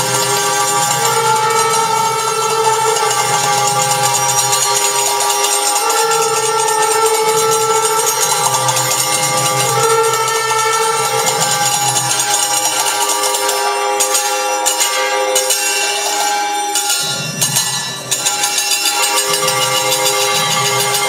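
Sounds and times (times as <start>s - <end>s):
temple bells ringing: 0.0s - 21.0s
wind instrument long held notes: 0.0s - 21.0s.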